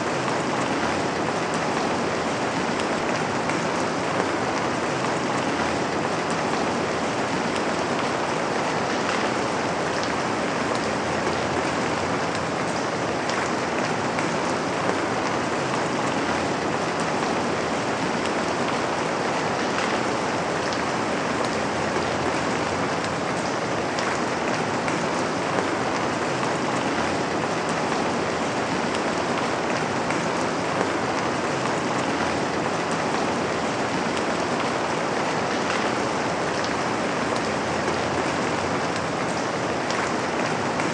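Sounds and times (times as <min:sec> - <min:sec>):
rain on a window pane: 0:00.0 - 0:40.9.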